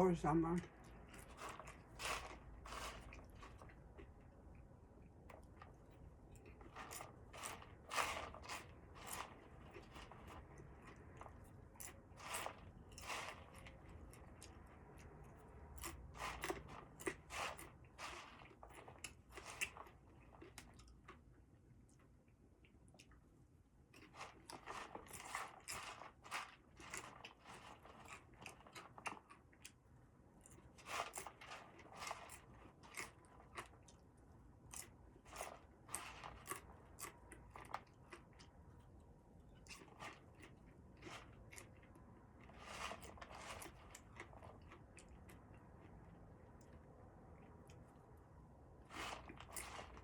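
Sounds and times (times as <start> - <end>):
person chewing crunchy food: 0.8 - 22.1, 23.9 - 38.9, 39.5 - 46.8, 48.8 - 50.0.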